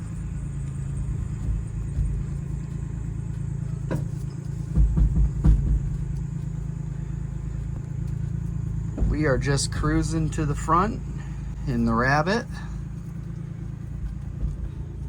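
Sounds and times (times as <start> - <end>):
rumble of rolling: 0.0 - 15.0
vehicle engine hum: 0.0 - 15.0
clunks and knocks: 0.9 - 11.6, 12.8 - 15.0.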